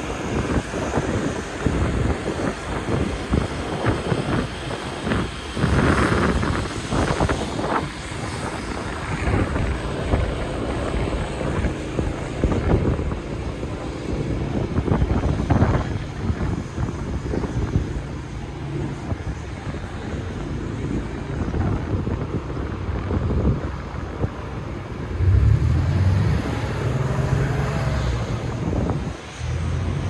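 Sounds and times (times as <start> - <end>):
street traffic passing: 0.0 - 30.0
wind buffeting microphone: 0.0 - 30.0.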